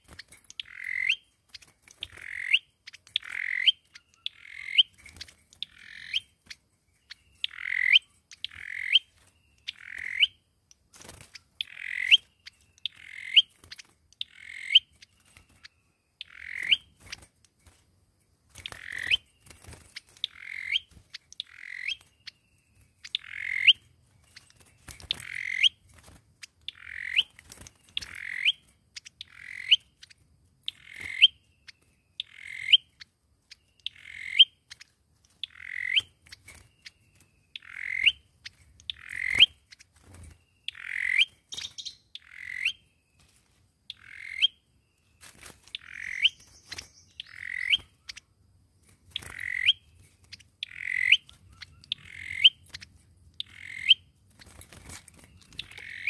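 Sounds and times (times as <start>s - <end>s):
bird calling: 0.0s - 10.4s, 11.2s - 17.2s, 18.6s - 25.8s, 26.7s - 43.0s, 43.9s - 48.3s, 49.1s - 56.0s.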